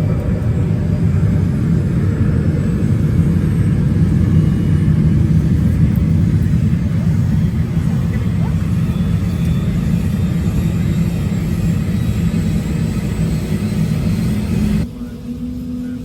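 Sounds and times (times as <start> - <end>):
helicopter turbine and rotor rumble: 0.0 - 16.0.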